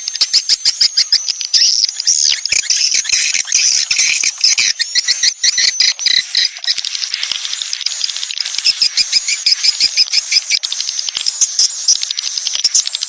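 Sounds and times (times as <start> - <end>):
bird chicks twittering: 0.0 - 13.0.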